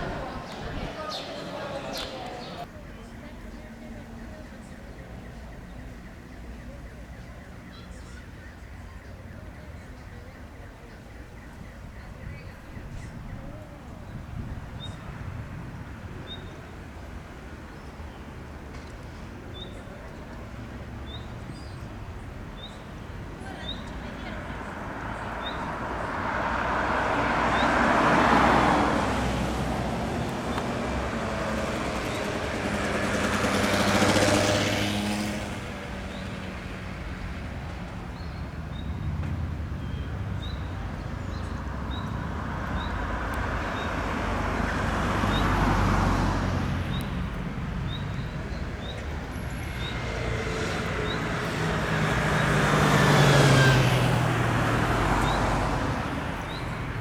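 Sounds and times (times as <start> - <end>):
road vehicles passing: 0.0 - 57.0.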